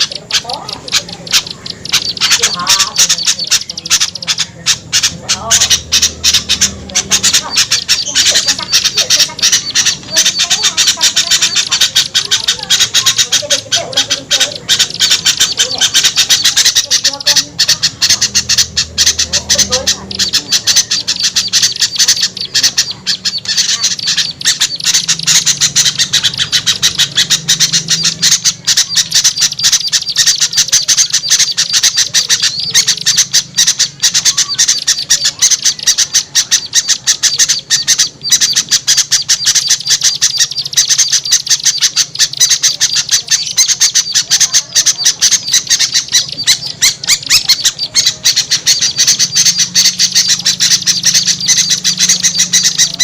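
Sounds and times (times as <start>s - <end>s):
small songbirds chattering: 0.0s - 53.0s.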